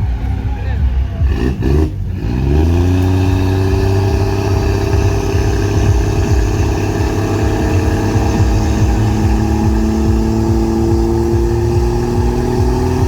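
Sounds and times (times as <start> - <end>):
diesel engine revving high: 0.0 - 13.0.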